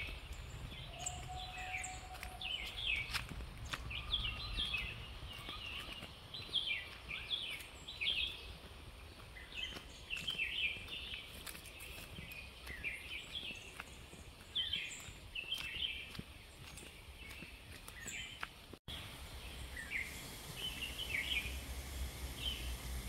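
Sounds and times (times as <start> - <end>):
songbirds chirping: 0.0 - 23.0
steady outdoor hiss: 0.0 - 23.0.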